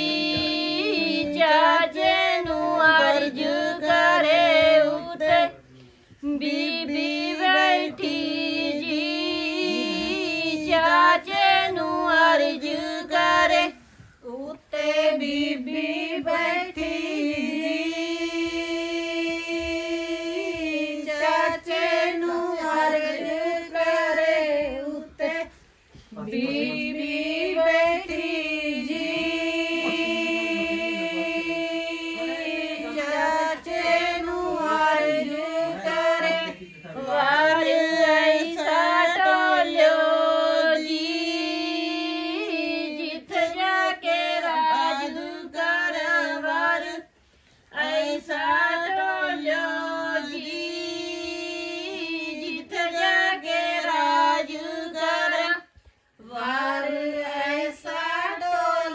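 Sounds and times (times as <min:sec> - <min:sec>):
women singing folk song: 0:00.0 - 0:58.9.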